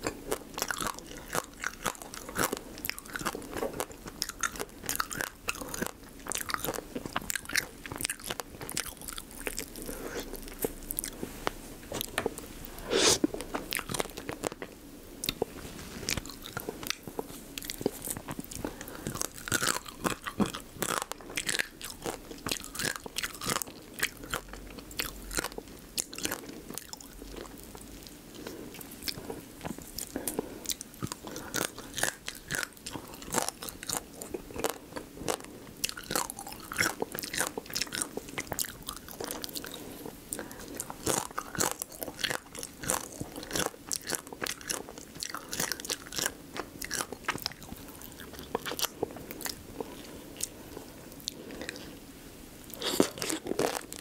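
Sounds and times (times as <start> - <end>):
wet chewing: 0.0 - 11.2, 13.1 - 52.0.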